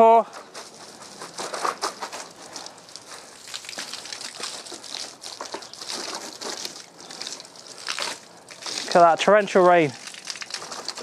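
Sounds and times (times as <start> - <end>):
hose water spraying on plastic: 0.1 - 11.0.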